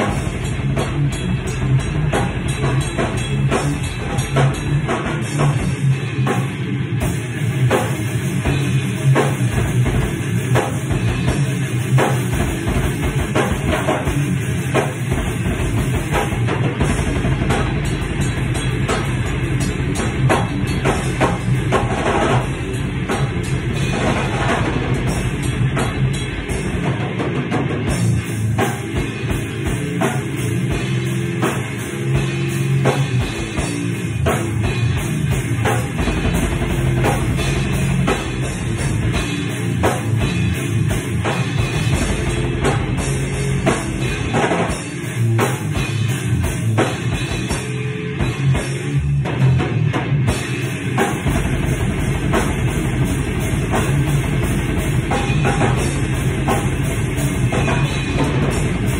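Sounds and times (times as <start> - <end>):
drum kit: 0.0 - 58.9
electric guitar: 0.0 - 58.9
fast bass drum strokes: 0.0 - 58.9.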